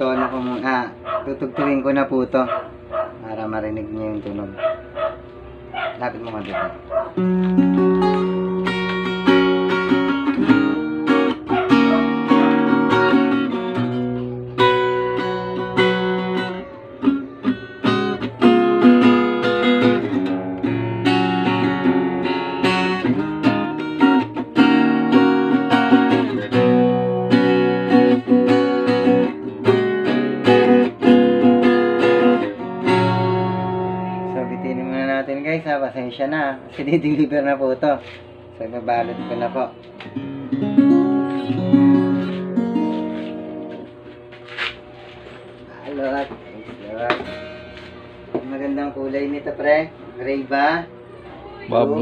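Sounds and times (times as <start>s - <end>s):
acoustic guitar strumming chords: 6.3s - 36.0s, 36.7s - 52.0s.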